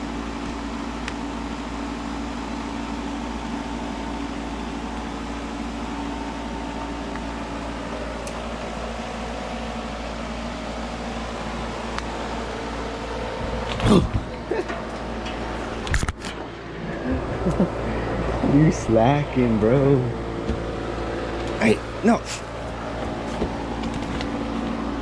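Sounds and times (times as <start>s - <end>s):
car engine hum: 0.0s - 25.0s
ventilation fan: 0.0s - 25.0s.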